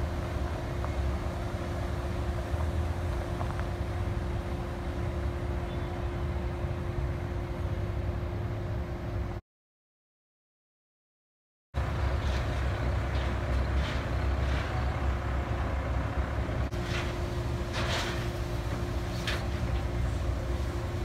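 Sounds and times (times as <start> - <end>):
truck diesel engine rumbling: 0.0 - 9.4, 11.8 - 21.0.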